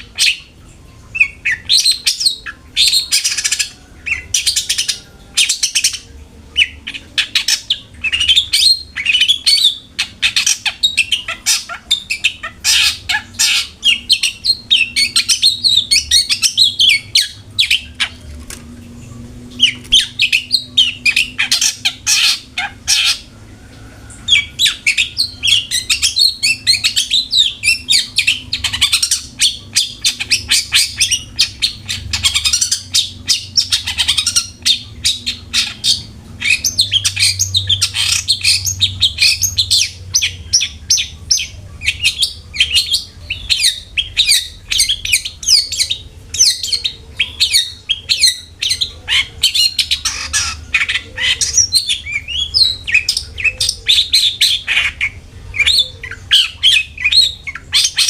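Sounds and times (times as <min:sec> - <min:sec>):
shrike chirping and squawking: 0:00.0 - 0:18.5, 0:19.5 - 0:23.4, 0:24.0 - 0:58.0.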